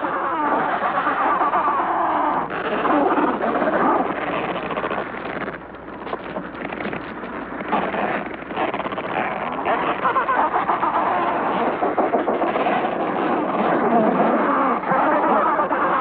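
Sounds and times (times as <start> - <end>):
penguins calling: 0.0 - 5.0, 7.7 - 16.0.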